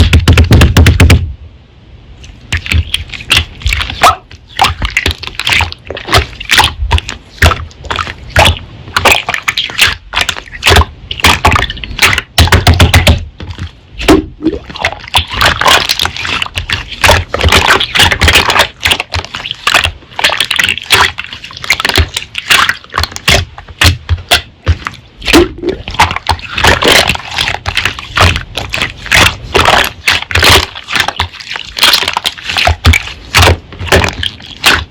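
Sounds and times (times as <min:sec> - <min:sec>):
slime squished by hand: 0:02.2 - 0:34.9.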